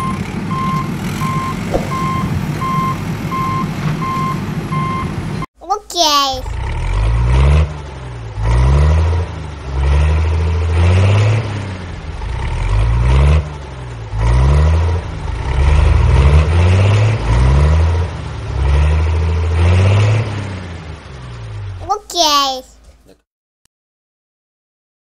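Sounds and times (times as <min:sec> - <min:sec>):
tractor engine revving: 0:00.0 - 0:05.4, 0:06.5 - 0:21.8.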